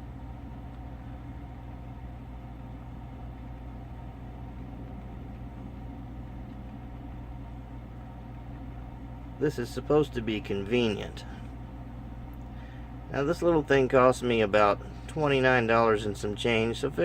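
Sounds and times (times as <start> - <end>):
coffee maker humming: 0.0 - 17.0.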